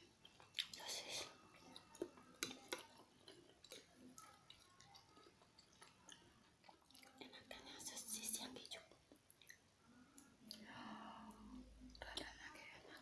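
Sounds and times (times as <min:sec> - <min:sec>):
close-miked chewing: 0:00.0 - 0:10.7.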